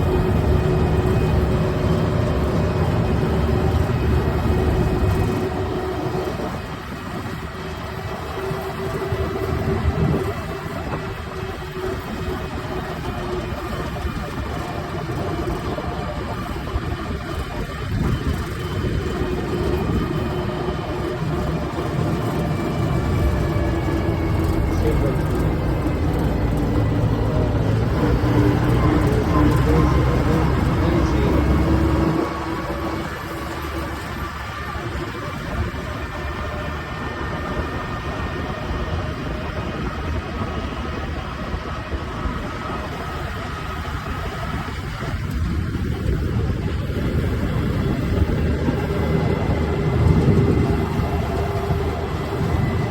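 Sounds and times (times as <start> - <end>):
diesel engine rumbling: 0.0 - 52.9.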